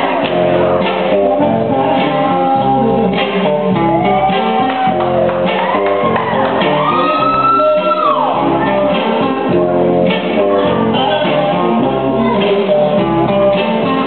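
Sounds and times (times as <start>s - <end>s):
song with guitar: 0.0s - 14.0s.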